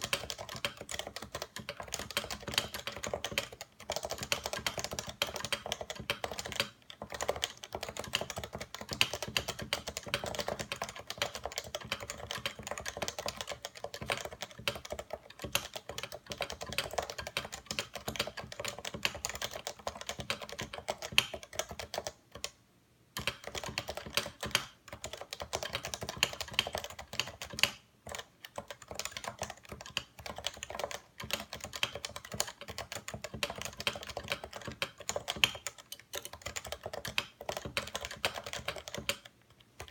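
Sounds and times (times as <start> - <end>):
typing on keyboard: 0.0 - 22.6, 23.2 - 39.9.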